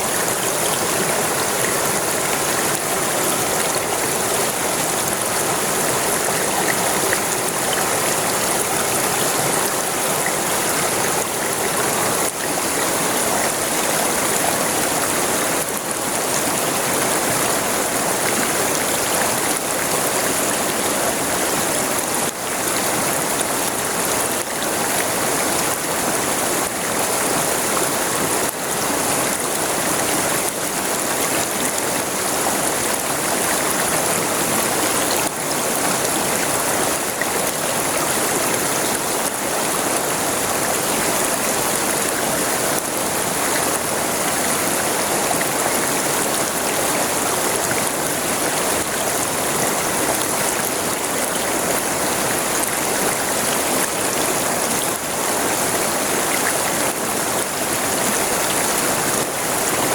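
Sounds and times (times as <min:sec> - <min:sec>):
river water rushing and babbling: 0:00.0 - 0:59.9.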